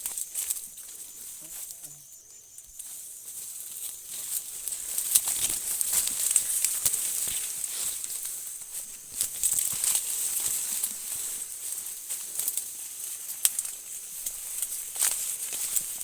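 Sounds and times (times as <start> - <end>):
dry corn leaves rustling: 0.0 - 16.0
night insects droning: 0.0 - 16.0.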